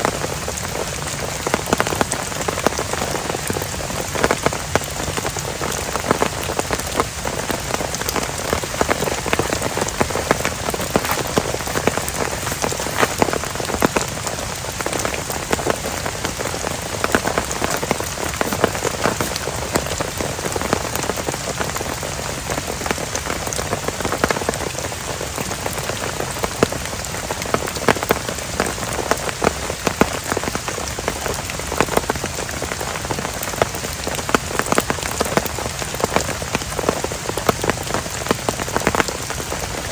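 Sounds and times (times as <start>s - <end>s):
heavy rain falling: 0.0s - 39.9s
sharp ticks of raindrops: 0.0s - 39.9s.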